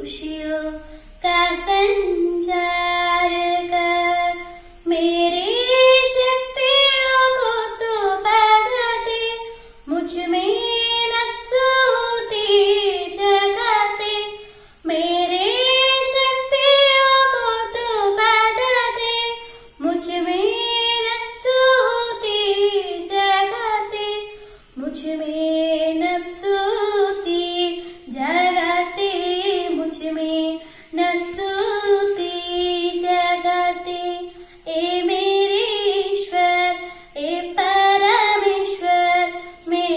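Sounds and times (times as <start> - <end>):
girl singing unaccompanied: 0.0 - 39.9.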